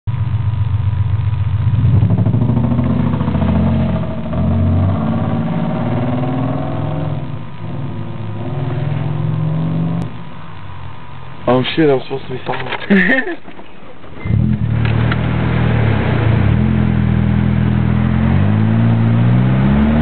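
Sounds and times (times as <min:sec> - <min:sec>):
car engine revving: 0:00.5 - 0:11.5, 0:14.2 - 0:20.0.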